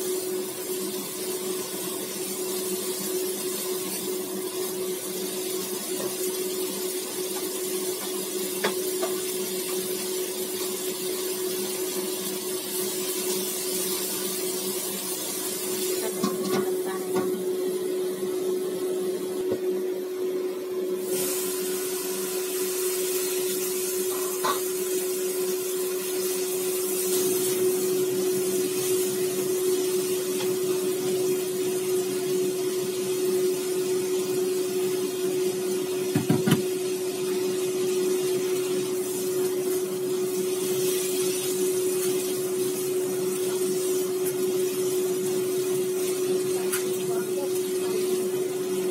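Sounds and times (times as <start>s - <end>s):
food sizzling in a wok: 0.0s - 48.9s.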